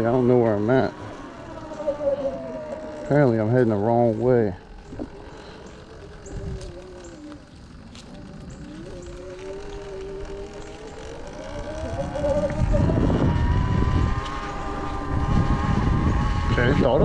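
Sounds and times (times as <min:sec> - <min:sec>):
electric dirt bike motor whining: 0:00.0 - 0:17.0
wind buffeting microphone: 0:00.0 - 0:17.0.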